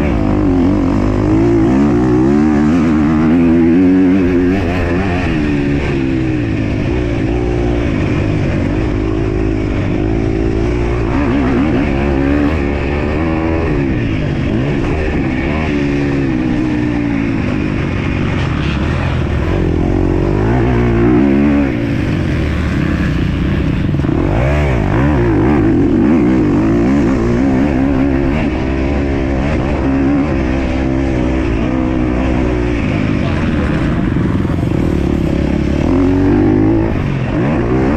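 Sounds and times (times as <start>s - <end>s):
motocross bike engine revving: 0.0s - 37.9s.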